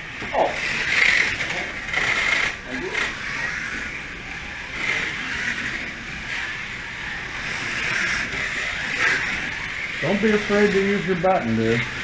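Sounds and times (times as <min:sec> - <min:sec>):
rc cars whining motors: 0:00.0 - 0:12.0.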